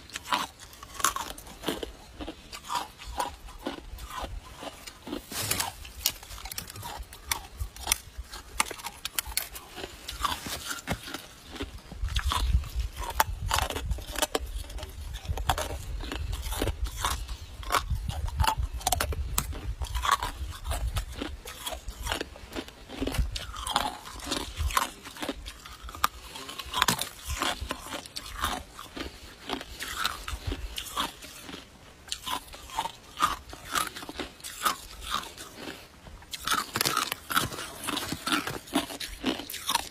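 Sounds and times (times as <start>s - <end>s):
ice crunching and cracking: 0.0s - 39.9s.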